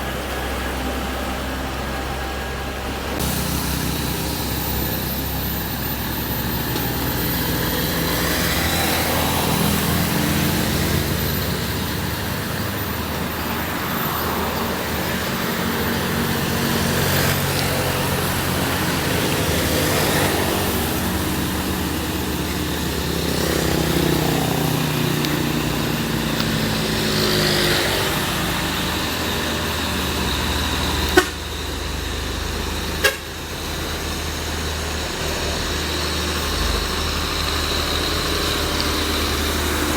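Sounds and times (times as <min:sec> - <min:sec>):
diesel truck engines labouring: 0:00.0 - 0:39.9.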